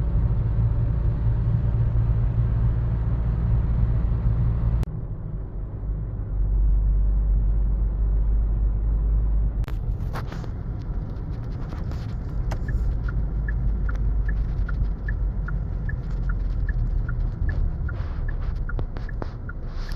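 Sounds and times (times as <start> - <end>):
car rumbling: 0.0 - 19.9.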